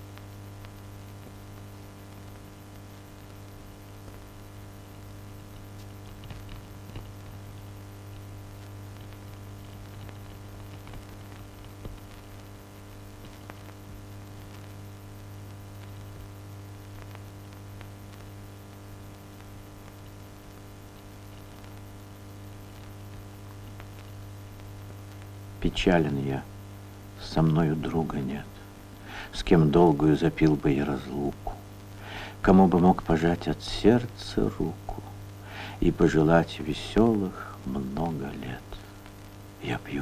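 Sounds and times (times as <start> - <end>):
faint clicks and crackles: 0.0 - 40.0
low electrical hum: 0.0 - 40.0.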